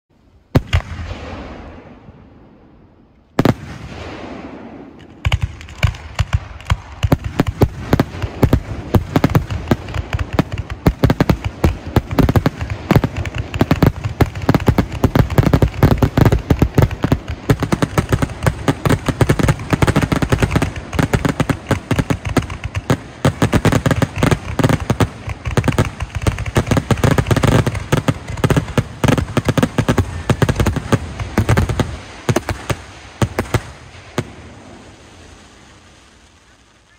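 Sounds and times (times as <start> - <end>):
fireworks barrage of bangs: 0.5 - 2.7, 3.4 - 36.9.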